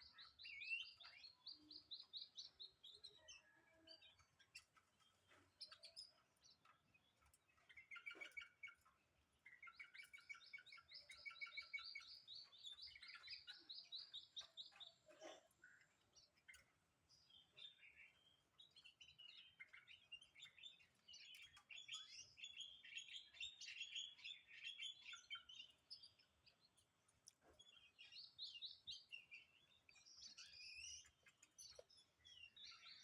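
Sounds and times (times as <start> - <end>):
bird singing high chirps: 0.0 - 6.7, 7.6 - 26.7, 27.6 - 33.0.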